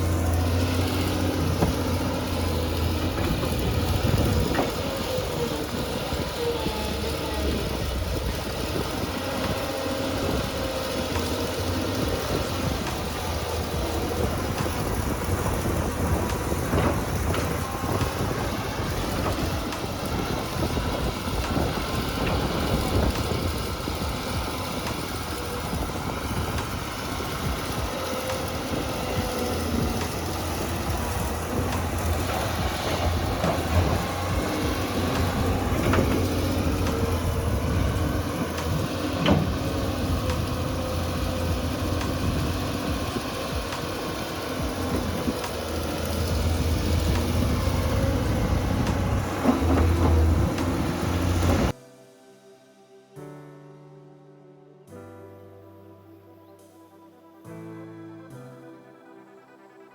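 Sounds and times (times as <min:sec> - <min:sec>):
heavy machine engine rumbling: 0:00.0 - 0:51.8.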